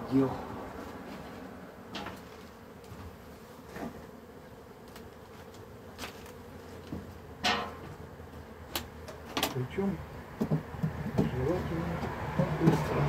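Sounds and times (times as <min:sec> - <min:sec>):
bees buzzing: 0:00.1 - 0:13.0.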